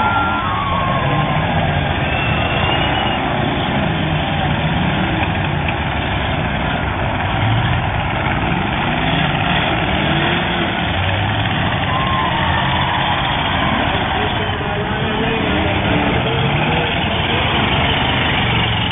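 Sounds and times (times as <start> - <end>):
car engines revving: 0.0 - 18.9.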